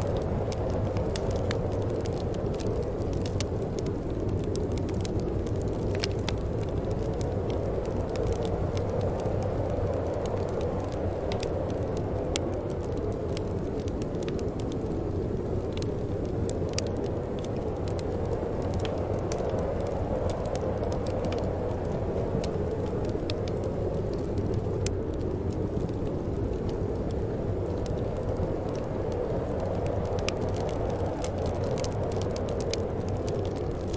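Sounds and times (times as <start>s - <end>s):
faint crackles and ticks: 0.0s - 33.9s
steady low wind: 0.0s - 33.9s.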